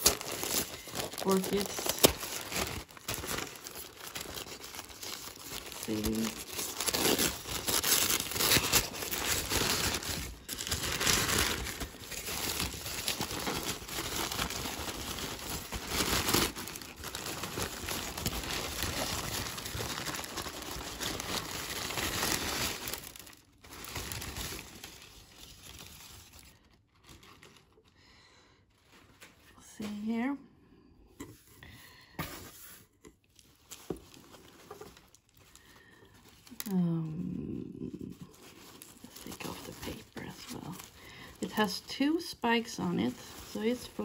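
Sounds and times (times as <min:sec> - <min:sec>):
packing paper crinkling: 0:00.0 - 0:28.0, 0:32.4 - 0:37.2, 0:37.8 - 0:44.0.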